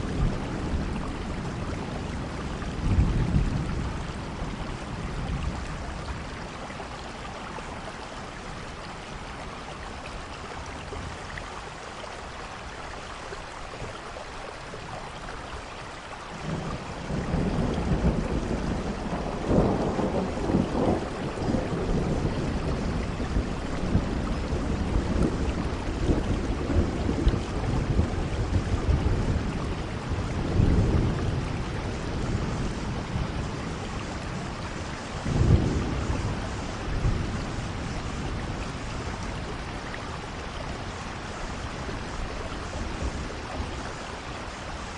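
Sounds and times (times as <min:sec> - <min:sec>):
low rumble of thunder: 0:00.0 - 0:11.7, 0:16.1 - 0:44.9
steady rain falling: 0:00.0 - 0:44.9.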